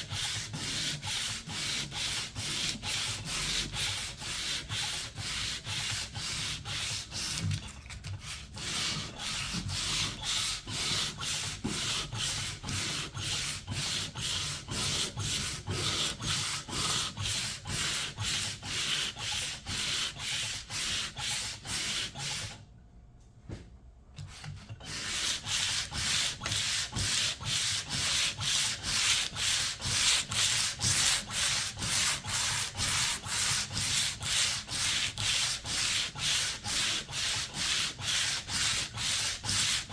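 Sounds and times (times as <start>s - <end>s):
sandpaper rubbing on wood: 0.0s - 7.6s, 8.2s - 22.6s, 24.8s - 39.9s.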